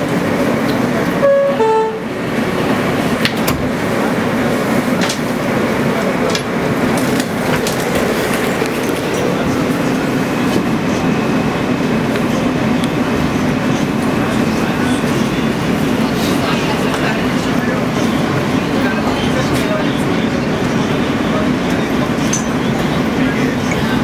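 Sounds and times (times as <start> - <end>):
train hum and rumble: 0.0 - 24.0.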